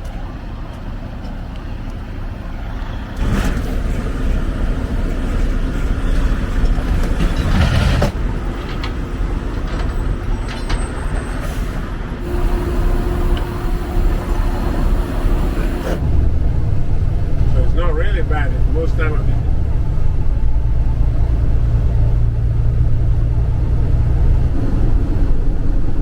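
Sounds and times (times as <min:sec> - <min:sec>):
road noise: 0:00.0 - 0:26.0
truck engine rumble: 0:00.0 - 0:26.0.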